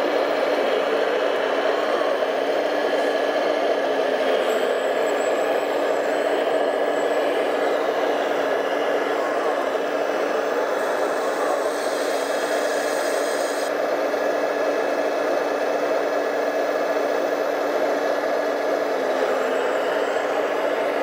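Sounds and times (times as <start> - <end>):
model excavator mechanical whir: 0.0 - 21.0.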